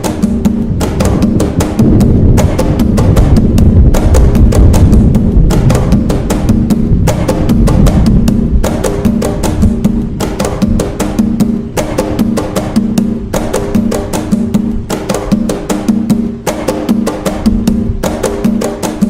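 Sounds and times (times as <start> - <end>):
deep drum tone: 0.0 - 19.0
hand drums playing a fast rhythm: 0.0 - 19.0.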